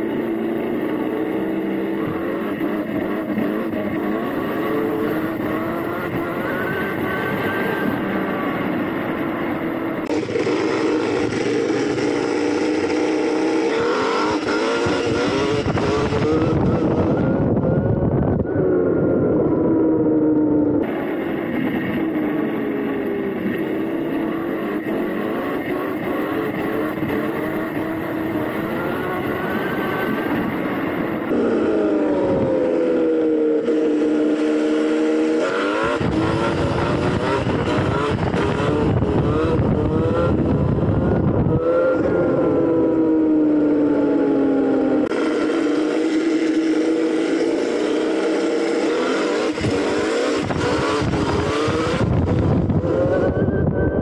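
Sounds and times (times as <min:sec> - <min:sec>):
electric motor whining: 0:00.0 - 0:54.0
wind: 0:00.0 - 0:54.0.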